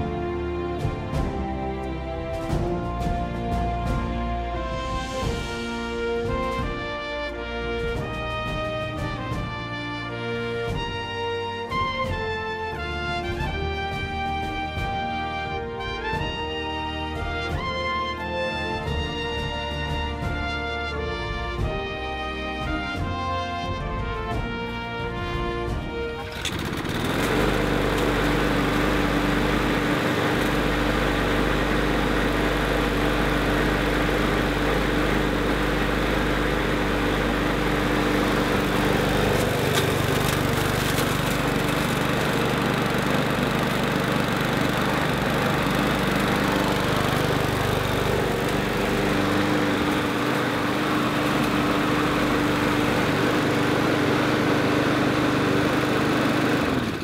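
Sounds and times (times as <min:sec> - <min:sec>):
lawnmower engine running: 0:05.2 - 0:20.8, 0:25.7 - 0:57.0.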